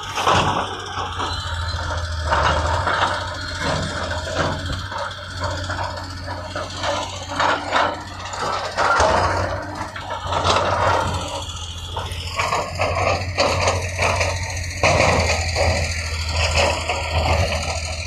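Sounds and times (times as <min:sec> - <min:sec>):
diesel engine droning: 0:00.0 - 0:18.0
dirt and rock scraping and rattling: 0:00.0 - 0:18.0.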